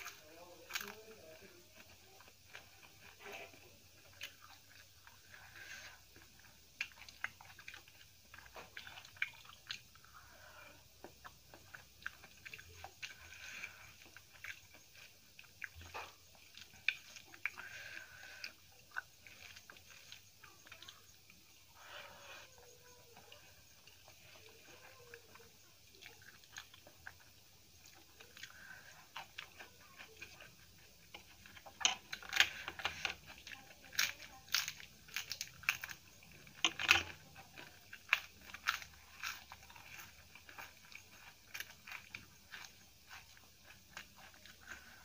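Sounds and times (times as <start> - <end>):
papadam crunching: 0.0 - 45.0.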